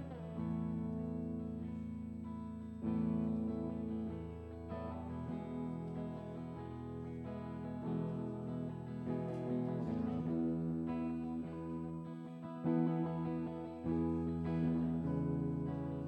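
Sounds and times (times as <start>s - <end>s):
strummed guitar: 0.0s - 16.0s.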